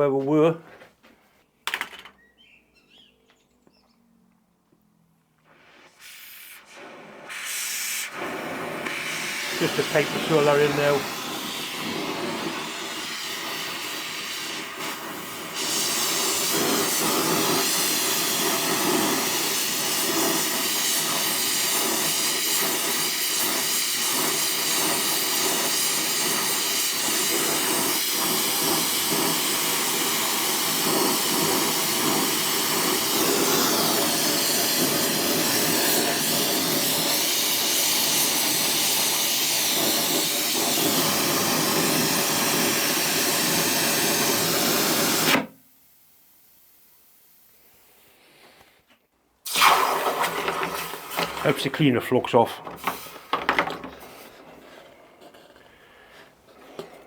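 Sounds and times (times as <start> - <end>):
gas jet rushing hiss: 5.4 - 45.6, 49.4 - 57.0.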